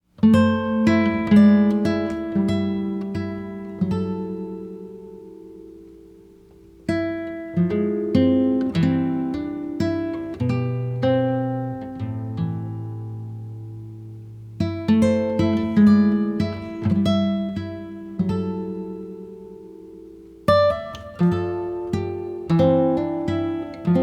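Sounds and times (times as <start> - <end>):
acoustic guitar picking: 0.1 - 24.0.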